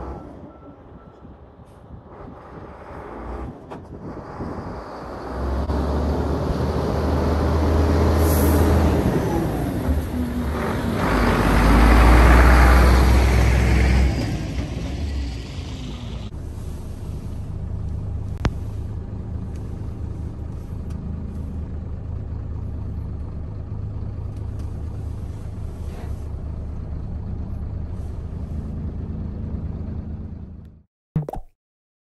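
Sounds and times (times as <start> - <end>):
truck diesel engine rumbling: 0.0 - 30.8.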